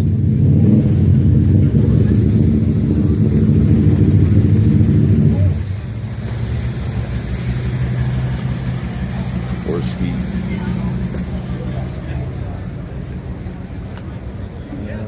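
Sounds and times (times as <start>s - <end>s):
car engine with deep exhaust rumble: 0.0s - 15.0s.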